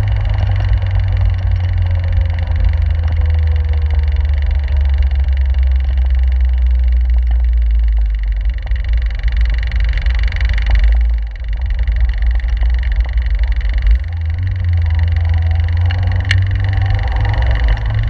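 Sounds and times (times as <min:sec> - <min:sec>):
car engine rumble: 0:00.0 - 0:18.0.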